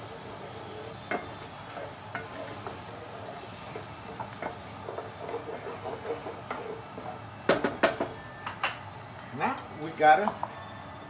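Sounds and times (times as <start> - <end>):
shallots sizzling in oil: 0.0 - 10.7.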